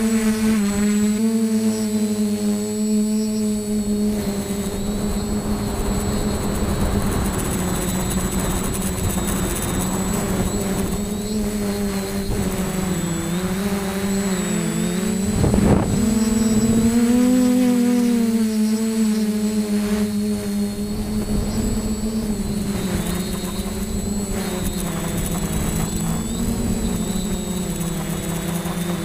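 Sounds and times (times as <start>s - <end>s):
quadcopter propellers buzzing: 0.0s - 29.0s.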